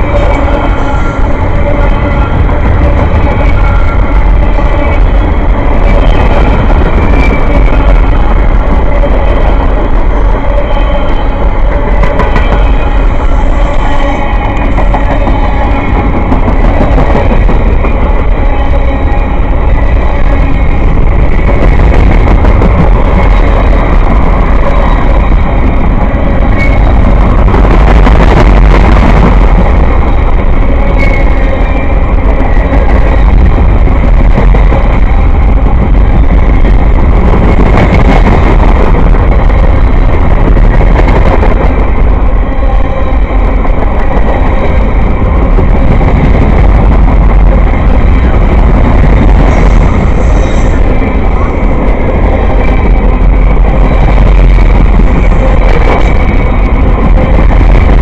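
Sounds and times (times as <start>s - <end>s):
train passing close: 0.0s - 58.0s.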